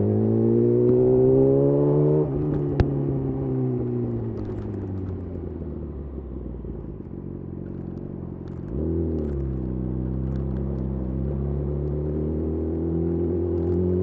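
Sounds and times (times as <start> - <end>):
motorcycle engine revving: 0.0 - 6.2, 7.6 - 14.0.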